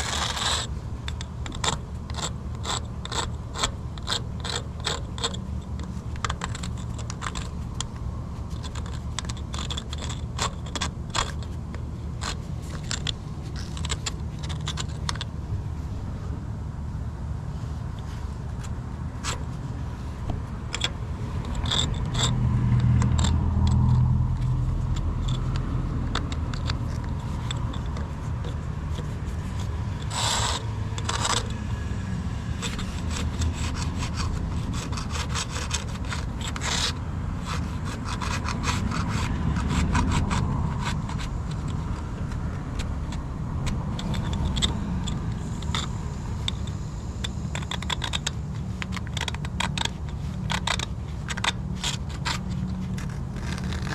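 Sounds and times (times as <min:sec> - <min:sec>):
scraping and rubbing: 0:00.0 - 0:16.3, 0:17.5 - 0:53.9
steady low rumble: 0:00.0 - 0:53.9.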